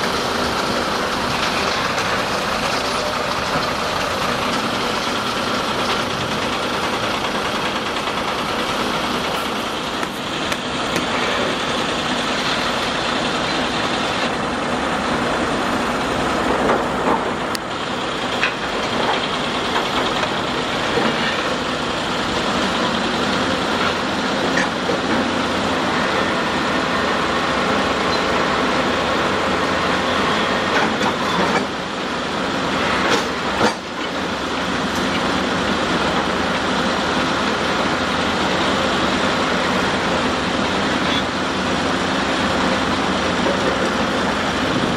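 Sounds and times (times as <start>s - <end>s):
heavy machinery engine running: 0.0s - 44.9s.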